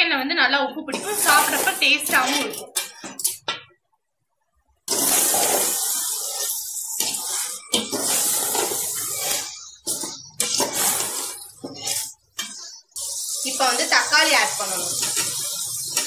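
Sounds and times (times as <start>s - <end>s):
chicken sizzling in hot oil: 0.9s - 3.1s, 4.9s - 16.0s
ladle stirring in steel pot: 0.9s - 3.5s, 4.9s - 16.0s.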